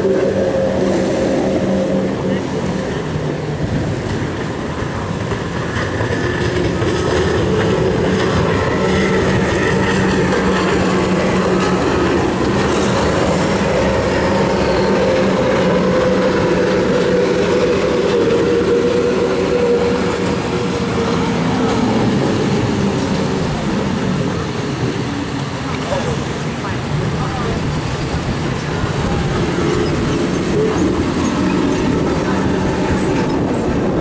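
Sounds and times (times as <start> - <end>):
powerboat engines droning: 0.0 - 34.0.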